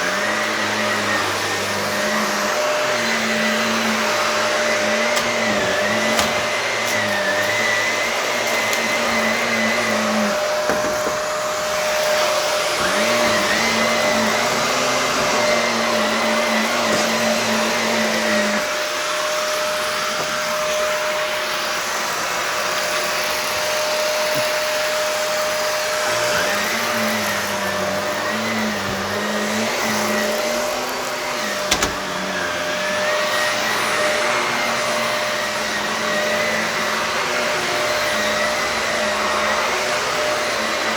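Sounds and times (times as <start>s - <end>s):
vacuum cleaner running on carpet: 0.0s - 40.9s.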